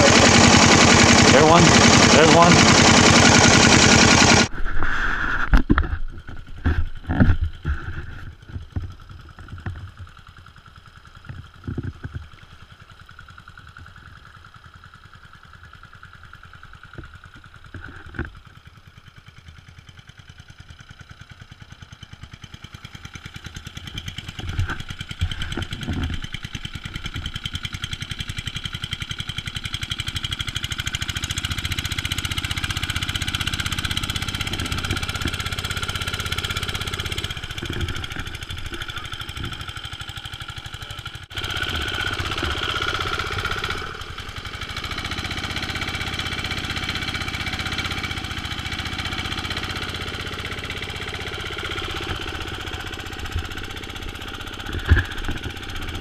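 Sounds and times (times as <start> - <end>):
small boat engine running: 0.0 - 56.0.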